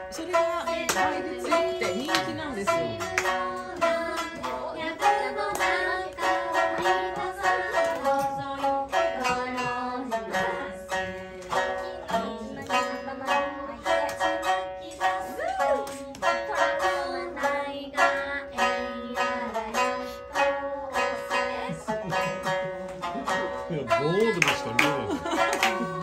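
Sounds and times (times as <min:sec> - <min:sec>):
person singing: 0:00.0 - 0:26.0
shamisen plucked: 0:00.0 - 0:26.0.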